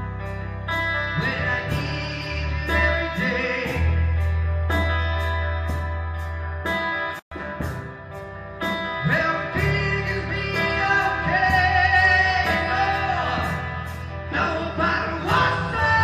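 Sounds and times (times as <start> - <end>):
band playing guitar and bass: 0.0 - 16.0.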